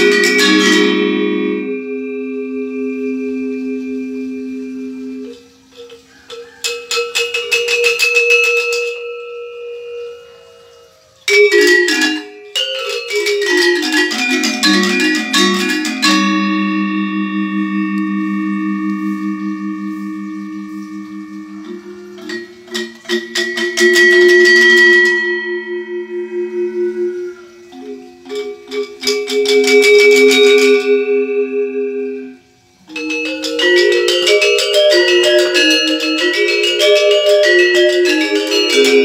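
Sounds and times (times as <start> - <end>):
metallophones struck with mallets: 0.0 - 39.0.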